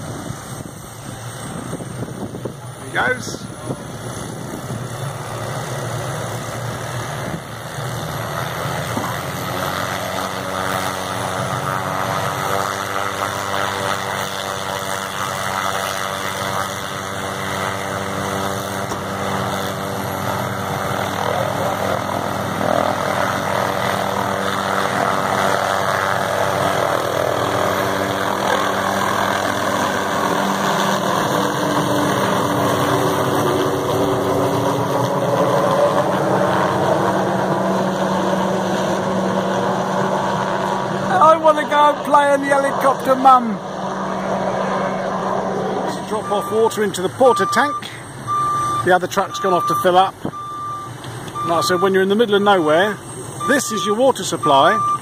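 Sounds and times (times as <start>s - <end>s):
engine humming drone: 0.0s - 55.0s.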